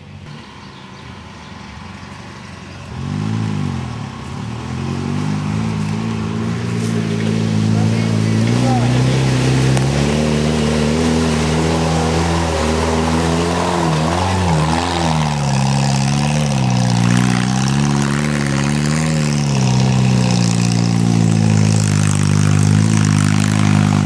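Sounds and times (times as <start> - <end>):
engine labouring under load: 0.0 - 24.0.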